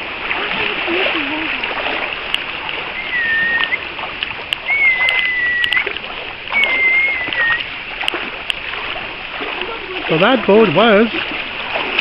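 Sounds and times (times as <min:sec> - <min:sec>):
feet splashing through water: 0:00.0 - 0:12.0.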